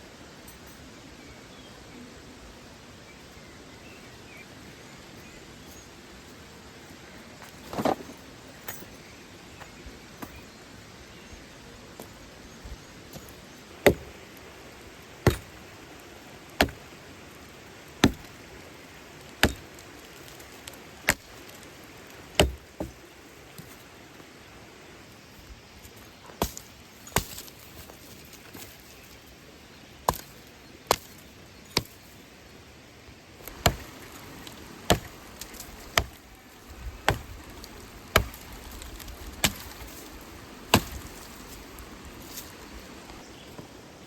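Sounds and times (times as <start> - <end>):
flowing water hiss: 0.0 - 44.0.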